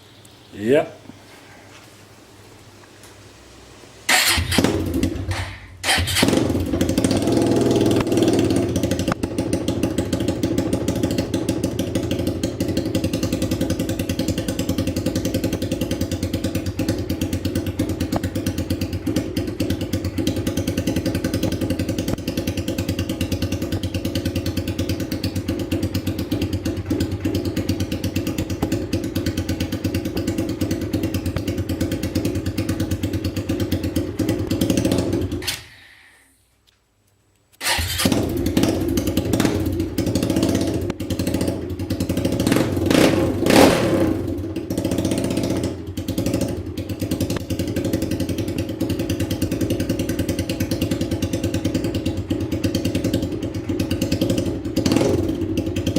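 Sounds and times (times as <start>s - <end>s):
motorcycle engine idling without exhaust: 3.5s - 36.3s, 37.6s - 55.9s.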